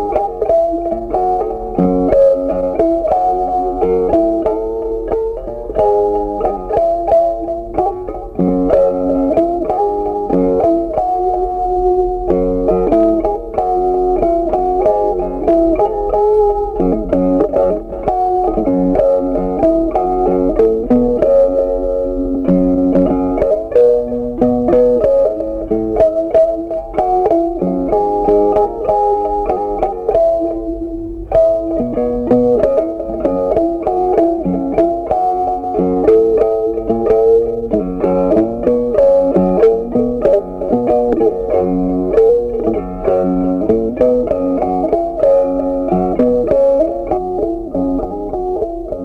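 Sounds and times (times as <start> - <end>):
plucked string melody: 0.0 - 49.0.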